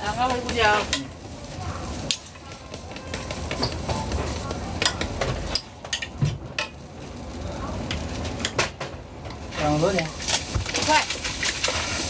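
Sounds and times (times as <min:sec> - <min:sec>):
street background noise: 0:00.0 - 0:12.0
utensils and packaging clicking: 0:00.0 - 0:12.0.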